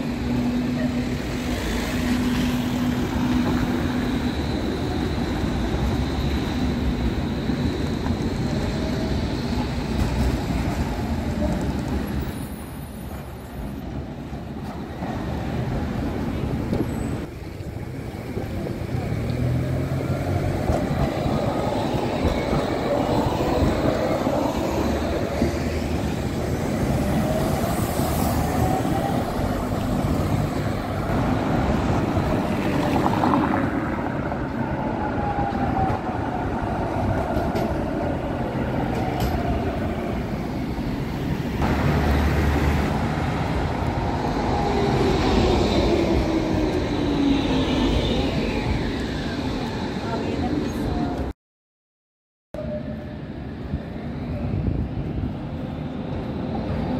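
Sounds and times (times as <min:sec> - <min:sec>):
tram wheels rumbling on rails: 0:00.0 - 0:51.3, 0:52.6 - 0:56.9.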